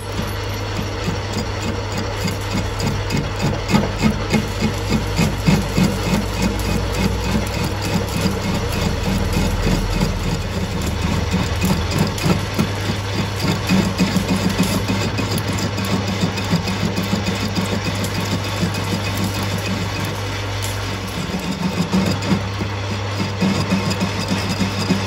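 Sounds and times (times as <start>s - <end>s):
metal lathe cutting: 0.0s - 25.0s.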